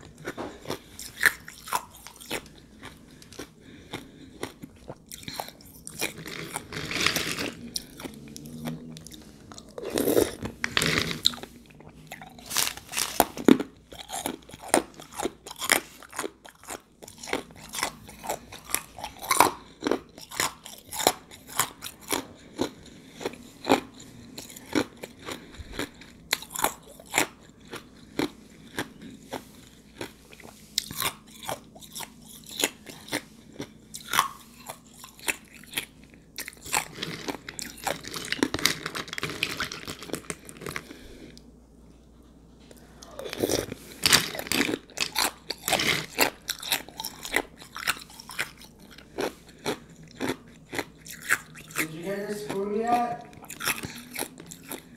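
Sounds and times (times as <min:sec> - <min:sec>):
chewing ice crunches: 0:00.0 - 0:41.0, 0:43.0 - 0:54.9.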